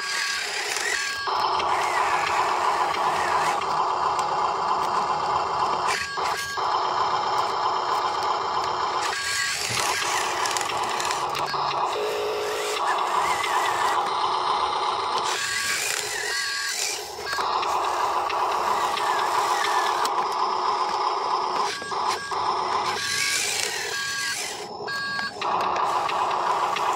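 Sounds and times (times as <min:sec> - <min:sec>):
toy truck motor whirring: 0:00.0 - 0:26.9.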